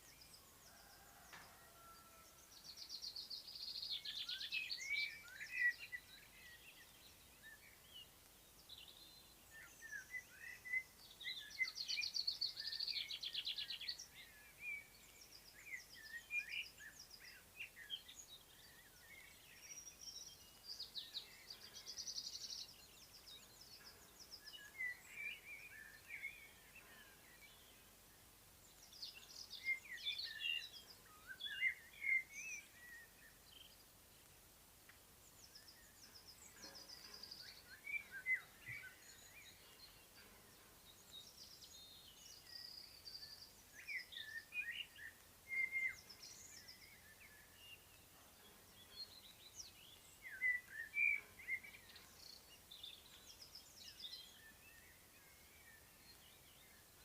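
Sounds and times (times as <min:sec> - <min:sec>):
faint outdoor hiss: 0:00.0 - 0:57.0
songbirds singing: 0:00.0 - 0:57.0.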